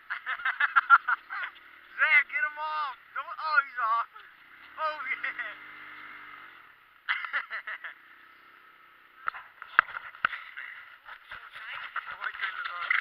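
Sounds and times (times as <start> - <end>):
four-wheeler engine humming: 0.0 - 13.0.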